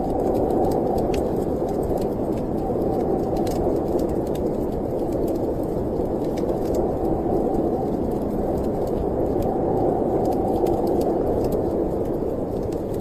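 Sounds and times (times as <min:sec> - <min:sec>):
storm wind rushing: 0:00.0 - 0:13.0
wood fire crackling: 0:00.0 - 0:13.0.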